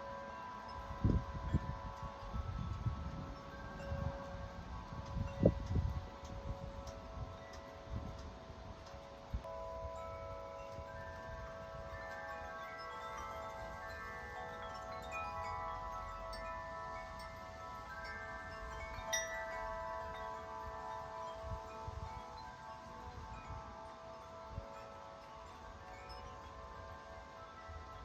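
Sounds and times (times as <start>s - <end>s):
tubular wind chime ringing: 0.0s - 28.0s
wind rumble on microphone: 0.0s - 28.0s.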